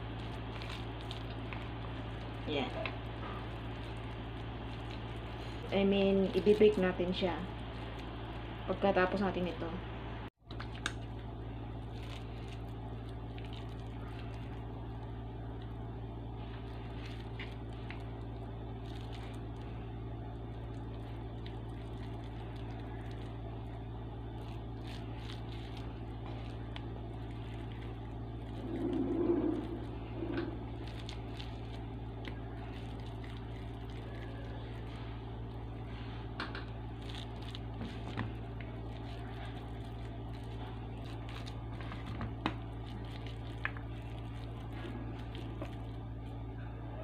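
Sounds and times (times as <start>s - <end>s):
hands squishing ground meat: 0.0s - 8.5s, 10.5s - 46.6s
steady low hum: 0.0s - 47.0s.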